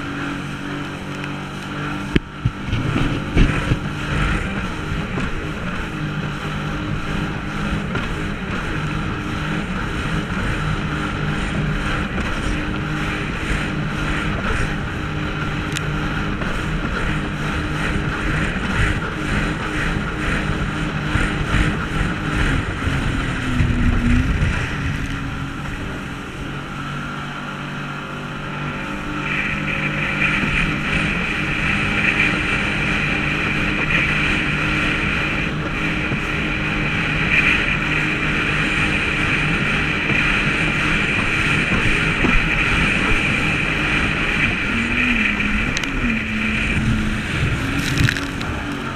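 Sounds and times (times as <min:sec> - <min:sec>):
jet ski engine running: 0:00.0 - 0:48.9
wind rushing over camera: 0:00.0 - 0:48.9.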